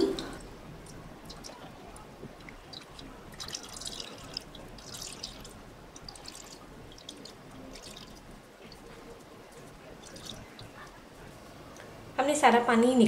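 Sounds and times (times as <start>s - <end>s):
liquid dripping into bowl: 0.2s - 12.0s.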